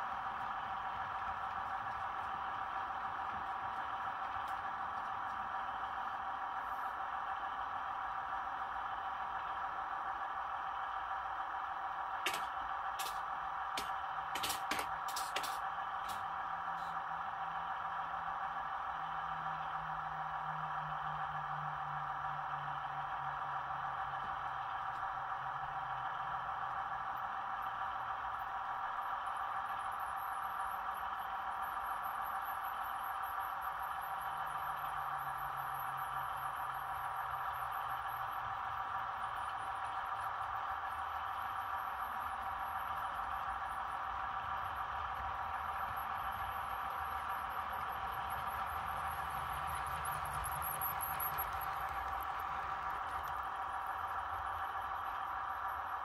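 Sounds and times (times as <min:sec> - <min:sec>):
model train motor hum: 0:00.0 - 0:56.0.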